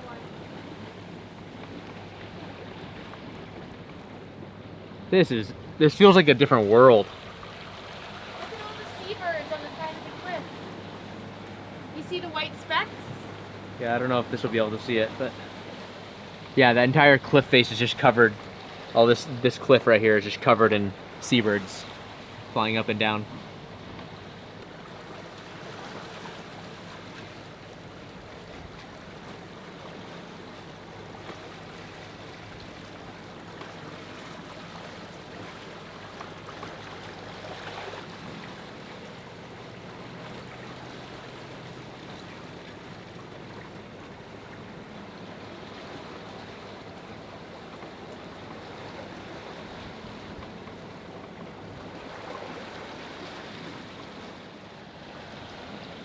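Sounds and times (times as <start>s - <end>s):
water rushing along boat hull: 0.0s - 56.0s.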